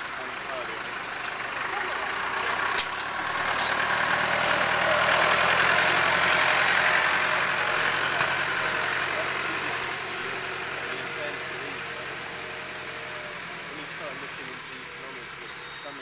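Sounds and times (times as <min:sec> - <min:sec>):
tractor engine running: 0:00.0 - 0:16.0
circular saw cutting hedge: 0:01.6 - 0:16.0.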